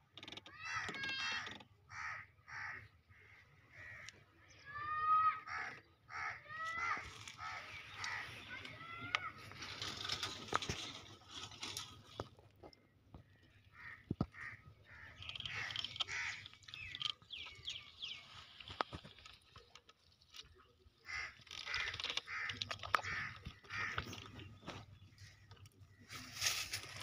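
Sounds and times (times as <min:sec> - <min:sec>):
birds calling: 0:00.1 - 0:27.0.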